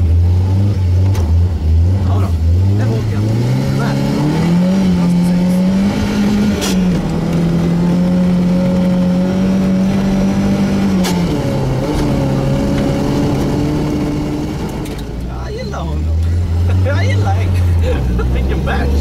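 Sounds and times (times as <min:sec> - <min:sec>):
car engine running hard: 0:00.0 - 0:19.0.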